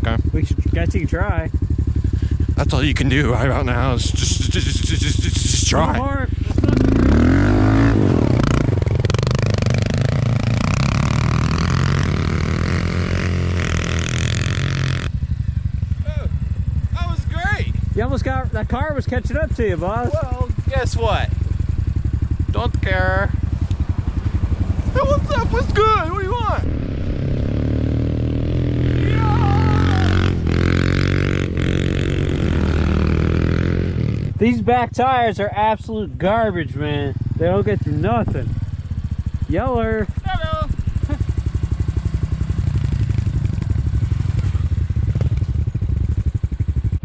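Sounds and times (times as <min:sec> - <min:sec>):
pit bike engine revving: 0:00.0 - 0:47.0.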